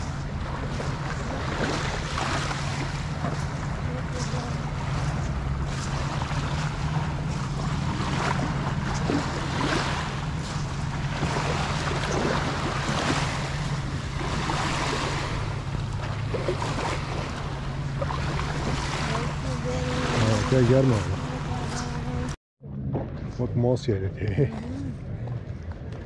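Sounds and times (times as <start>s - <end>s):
low even drone: 0.0s - 26.0s.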